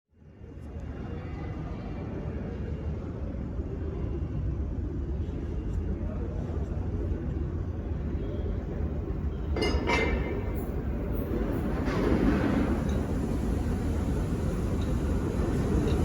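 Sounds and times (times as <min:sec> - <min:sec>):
subway train rumbling: 0:00.2 - 0:16.0.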